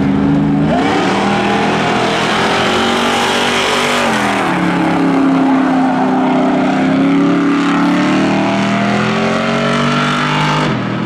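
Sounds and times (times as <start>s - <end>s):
racing car engines at full throttle: 0.0s - 11.0s.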